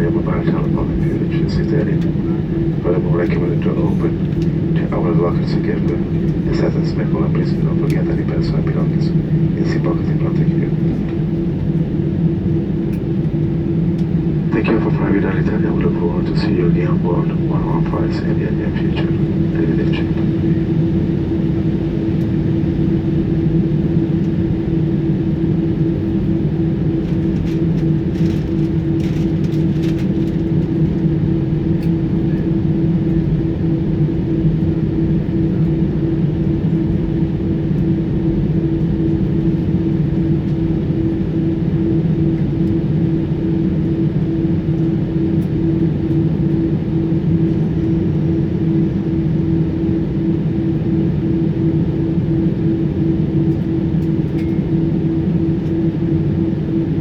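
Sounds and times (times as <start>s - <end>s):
airplane cabin hum: 0.0s - 57.0s.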